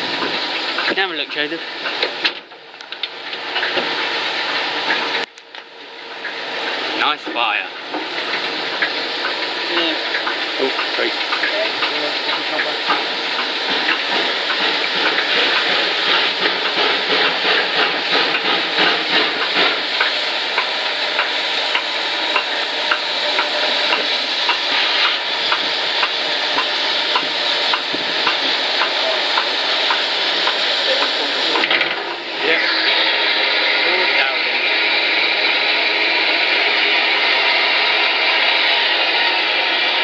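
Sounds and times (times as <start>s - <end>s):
steam locomotive hissing: 0.0s - 2.5s, 3.1s - 5.3s, 5.9s - 40.0s.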